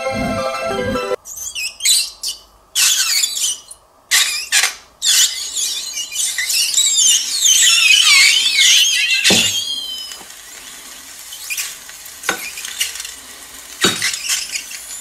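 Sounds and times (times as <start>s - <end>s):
water beads squealing on hot metal: 1.3s - 15.0s
hissing: 2.8s - 15.0s.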